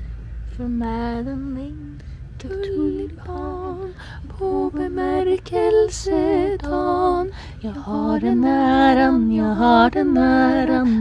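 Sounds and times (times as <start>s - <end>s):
low background rumble: 0.0s - 11.0s
woman singing with vibrato: 0.6s - 11.0s.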